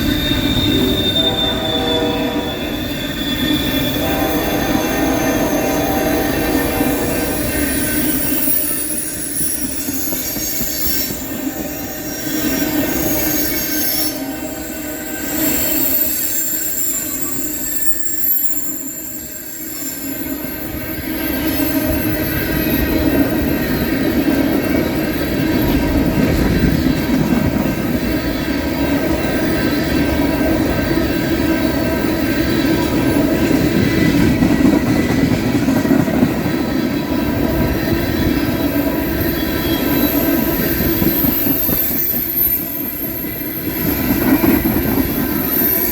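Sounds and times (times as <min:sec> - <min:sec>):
train wheels rumbling on rails: 0:00.0 - 0:45.9
wheels squealing: 0:00.0 - 0:45.9.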